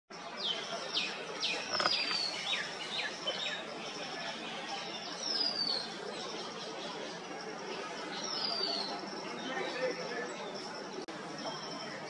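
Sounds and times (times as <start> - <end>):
steady background noise: 0.1 - 12.0
birds chirping: 0.3 - 12.0.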